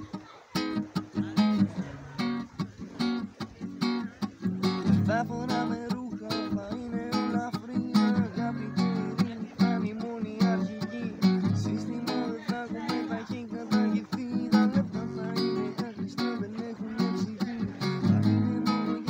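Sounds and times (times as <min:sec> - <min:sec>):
classical guitar strummed: 0:00.0 - 0:19.0.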